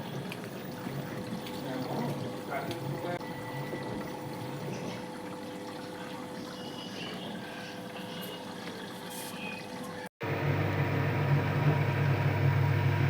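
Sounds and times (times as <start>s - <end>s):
water rushing into washing machine: 0.0s - 13.0s.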